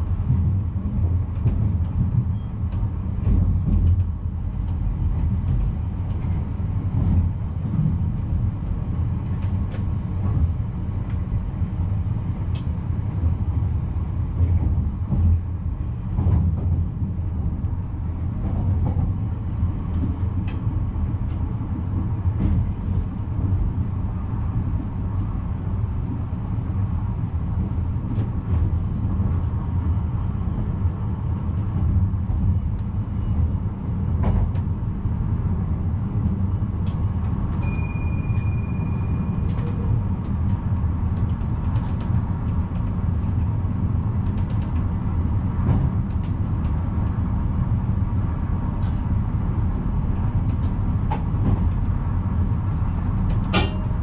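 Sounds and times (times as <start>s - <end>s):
electric train low rumble: 0.0s - 54.0s.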